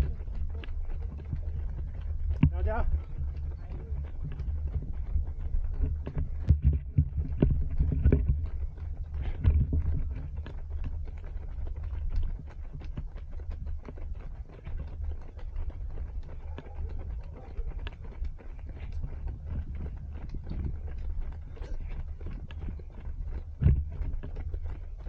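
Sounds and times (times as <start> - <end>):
running footsteps on pavement: 0.0 - 25.0
wind rumble on microphone: 0.0 - 25.0.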